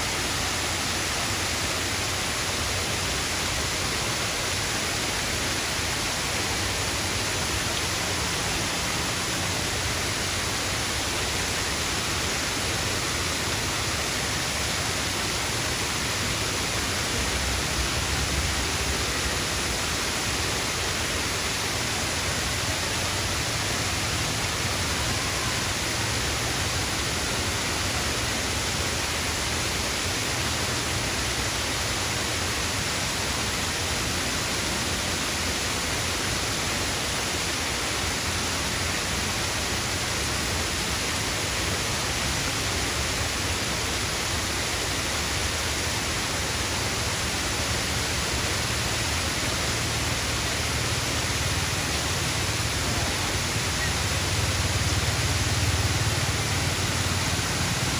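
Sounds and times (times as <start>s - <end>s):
waterfall splashing into pool: 0.0s - 57.9s.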